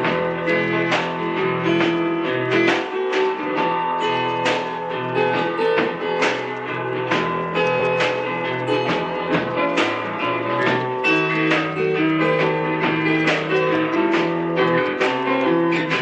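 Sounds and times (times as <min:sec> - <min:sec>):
strummed guitar: 0:00.0 - 0:16.0.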